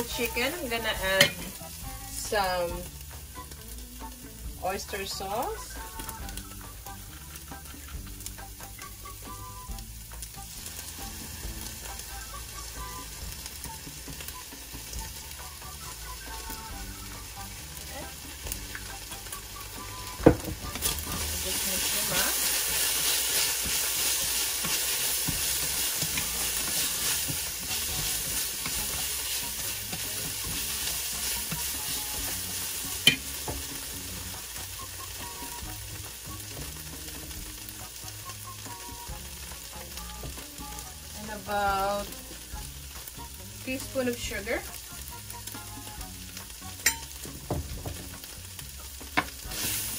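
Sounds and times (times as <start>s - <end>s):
chicken sizzling in a pan: 0.0s - 49.9s
chopsticks stirring in a pan: 0.0s - 49.9s.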